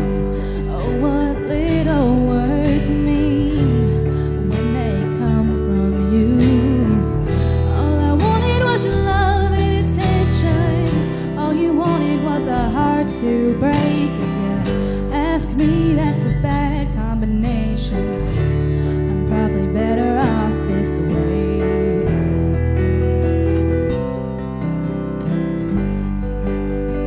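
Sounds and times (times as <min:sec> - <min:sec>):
person singing: 0:00.0 - 0:18.2, 0:18.9 - 0:22.4
bass: 0:00.0 - 0:27.0
guitar accompaniment: 0:00.0 - 0:27.0.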